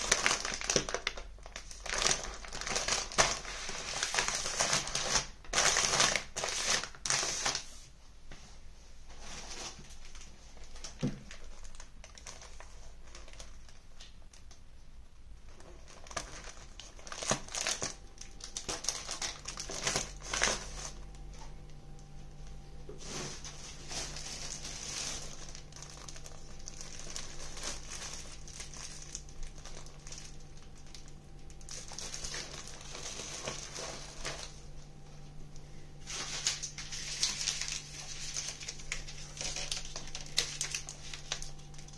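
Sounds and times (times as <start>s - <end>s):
bags crinkling and rustling: 0.0s - 7.7s, 9.1s - 14.6s, 15.4s - 41.9s
faint low hum: 0.0s - 41.9s.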